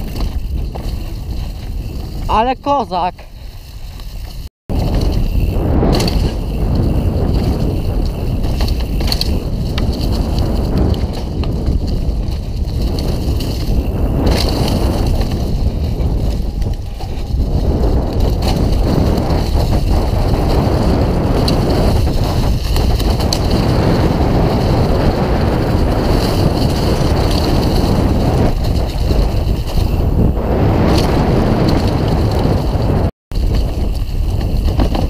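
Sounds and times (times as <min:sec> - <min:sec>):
bike tyres crunching over leaves: 0:00.0 - 0:02.3, 0:03.4 - 0:35.0
bike knocking and rattling: 0:00.0 - 0:02.5, 0:03.4 - 0:35.0
wind buffeting microphone: 0:00.0 - 0:35.0.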